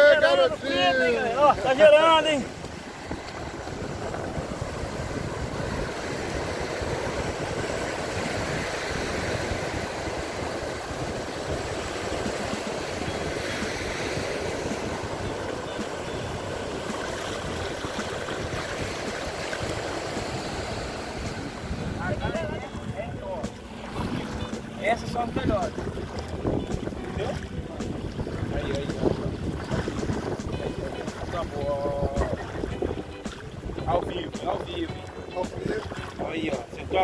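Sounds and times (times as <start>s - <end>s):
sea water rushing: 0.0s - 37.0s
wind buffeting microphone: 0.0s - 37.0s.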